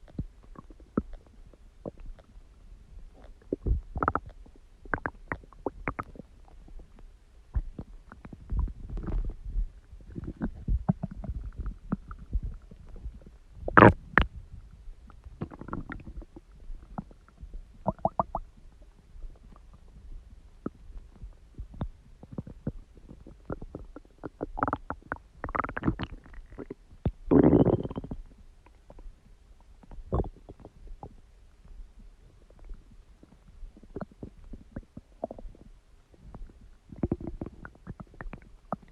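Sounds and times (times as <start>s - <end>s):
stomach gurgling and growling: 0.0s - 38.9s.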